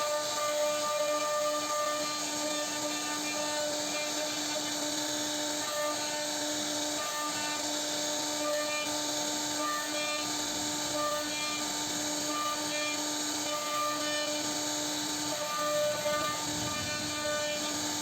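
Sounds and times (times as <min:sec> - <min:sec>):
bit cutting wood hiss: 0:00.0 - 0:18.0
router spindle whining: 0:00.0 - 0:18.0.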